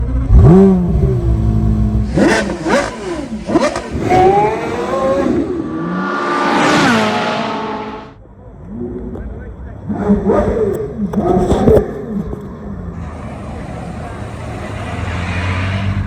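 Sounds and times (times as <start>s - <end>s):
sports car engine revving: 0.0s - 16.0s.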